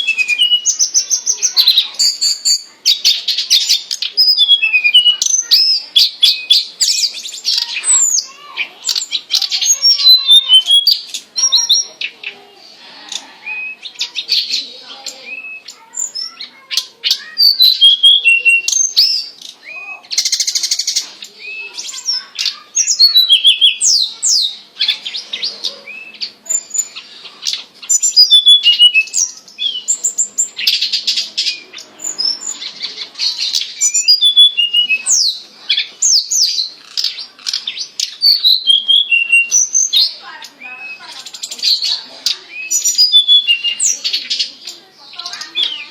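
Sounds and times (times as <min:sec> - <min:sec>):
songbird singing whistled notes: 0:00.0 - 0:12.4, 0:13.1 - 0:45.9.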